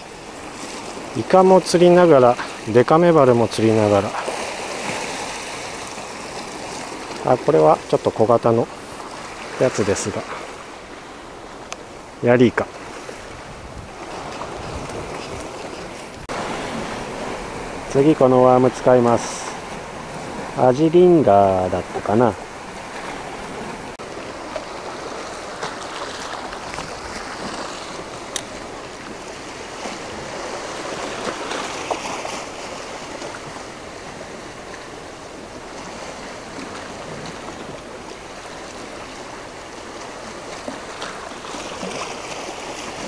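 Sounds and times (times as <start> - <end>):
waves washing on rocky shore: 0.0 - 43.0.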